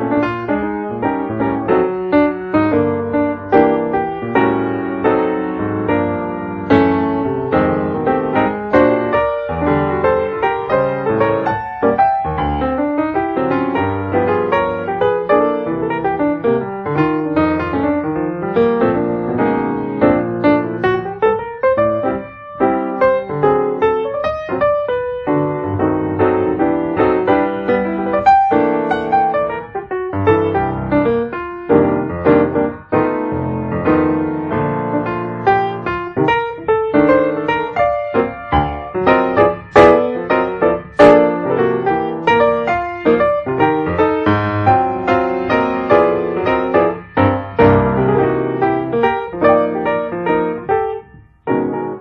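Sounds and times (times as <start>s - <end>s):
piano music: 0.0s - 52.0s.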